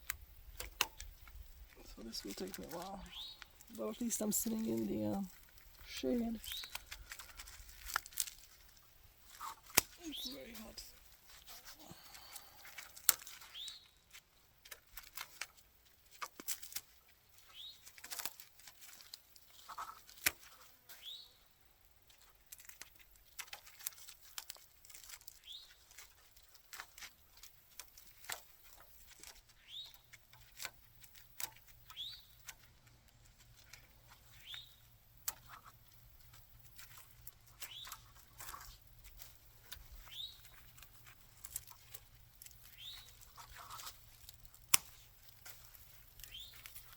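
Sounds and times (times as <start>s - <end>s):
vines snipped and pulled: 0.0s - 21.2s, 22.0s - 46.9s.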